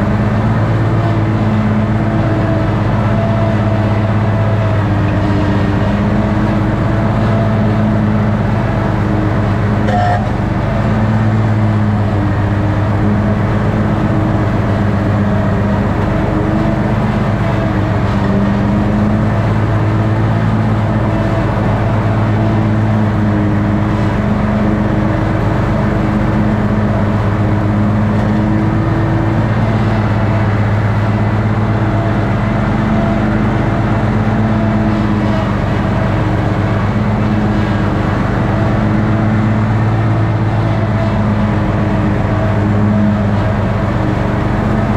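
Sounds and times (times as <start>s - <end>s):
ride-on lawn mower engine: 0.0s - 44.9s.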